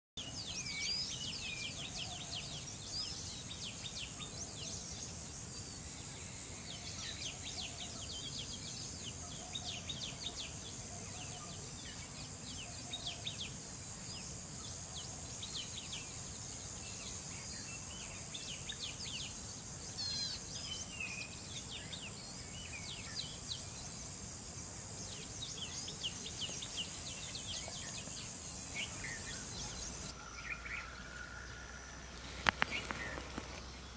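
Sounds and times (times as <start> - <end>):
high insect drone: 0.2 - 33.9
small birds chirping: 0.2 - 33.9.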